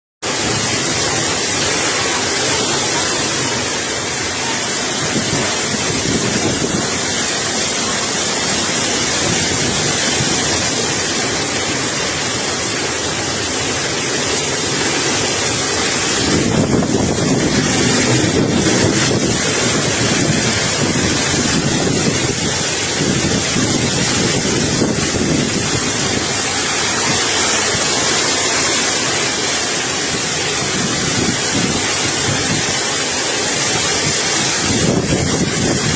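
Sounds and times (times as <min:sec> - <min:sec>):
gusty wind buffeting microphone: 0:00.5 - 0:35.9.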